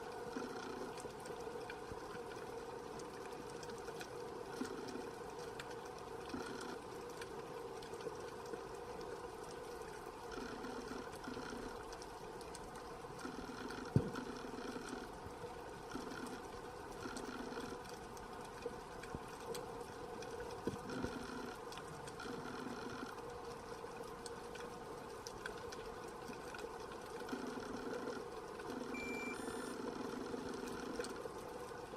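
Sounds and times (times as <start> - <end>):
faint clicks: 0.0 - 28.8, 29.8 - 31.9
underwater hum: 0.0 - 31.9.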